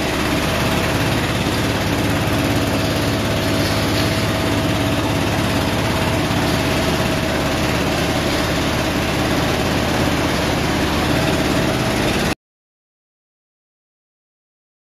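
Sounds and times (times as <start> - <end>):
machine mechanical drone: 0.0 - 12.4.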